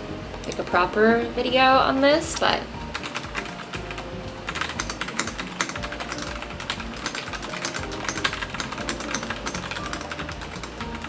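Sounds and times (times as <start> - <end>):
background music: 0.0 - 11.0
mechanical keyboard typing: 2.1 - 11.0.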